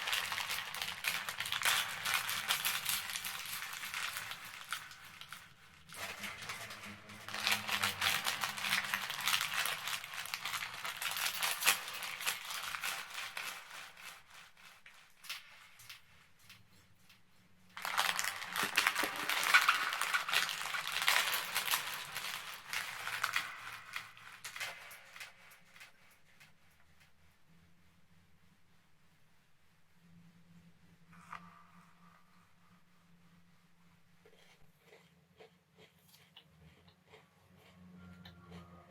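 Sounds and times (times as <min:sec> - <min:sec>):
crunching and chewing cookies: 0:00.0 - 0:27.2, 0:34.2 - 0:38.9.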